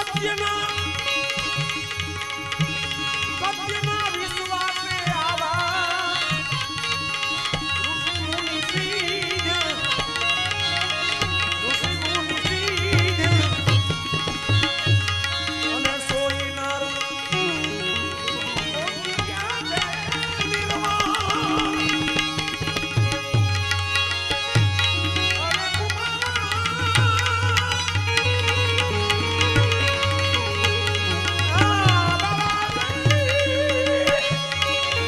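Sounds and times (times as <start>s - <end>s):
tabla beat: 0.0s - 35.0s
wavering melody: 0.0s - 35.0s.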